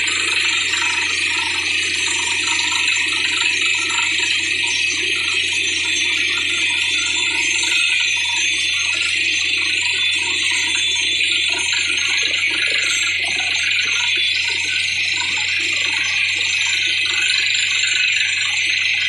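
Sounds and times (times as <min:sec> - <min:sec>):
drilling rig hiss and hum: 0:00.0 - 0:19.0.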